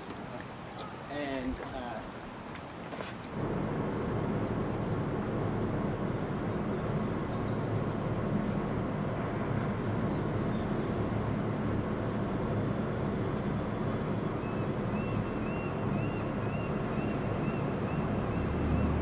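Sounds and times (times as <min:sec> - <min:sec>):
low rumble of street ambience: 0:00.0 - 0:19.0.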